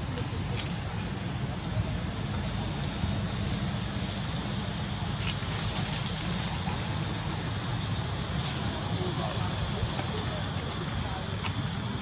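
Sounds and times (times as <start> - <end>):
high-pitched whine: 0.0 - 12.0
low outdoor rumble and hiss: 0.0 - 12.0.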